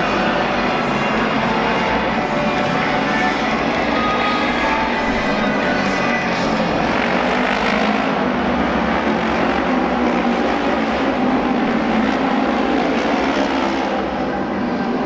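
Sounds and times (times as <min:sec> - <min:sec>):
racing motorcycles engine drone: 0:00.0 - 0:15.0.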